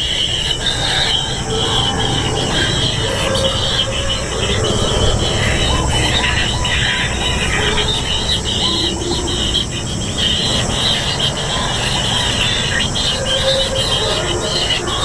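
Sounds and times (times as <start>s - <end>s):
nestlings rasping begging calls: 0.0s - 15.0s.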